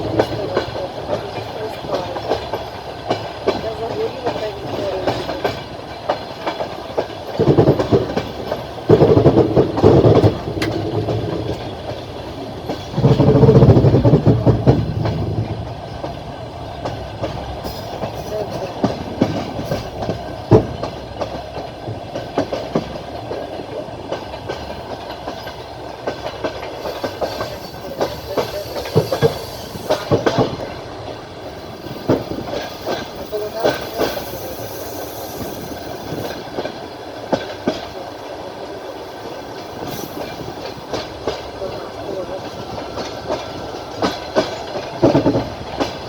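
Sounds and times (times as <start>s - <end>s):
train wheels clattering over rail joints: 0.0s - 46.0s.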